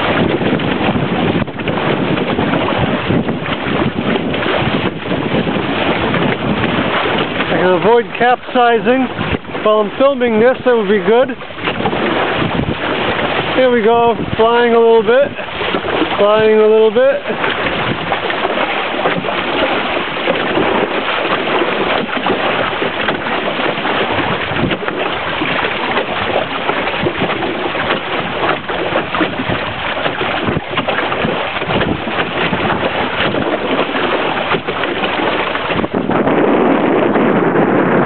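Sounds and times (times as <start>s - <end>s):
water rushing past hull: 0.0s - 38.0s
wind buffeting microphone: 0.0s - 38.0s.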